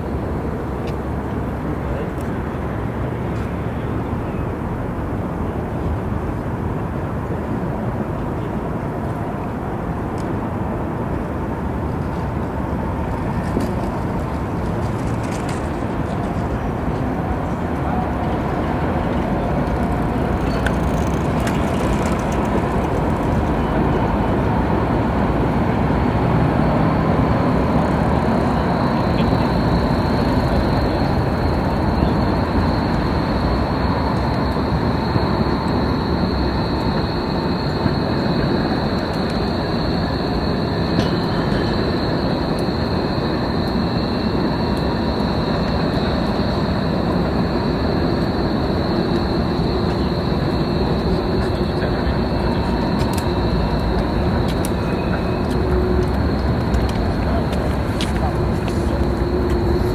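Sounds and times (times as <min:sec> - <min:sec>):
rail vehicle rumbling: 0:00.0 - 0:59.9.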